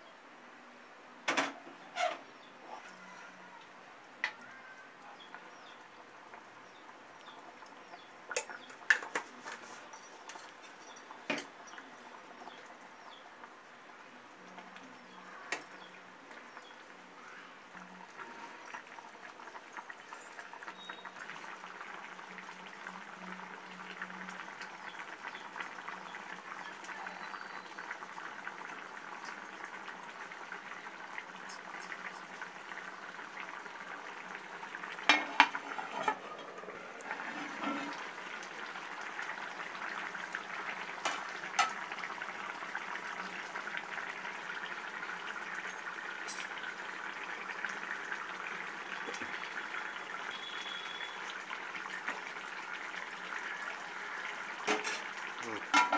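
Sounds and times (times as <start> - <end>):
curry bubbling in a pan: 4.2 - 55.9.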